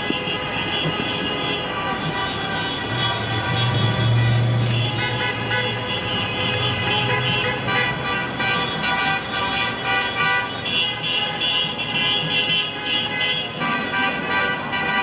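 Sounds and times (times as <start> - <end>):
car horns honking: 0.0 - 15.0
traffic rumble: 0.0 - 15.0.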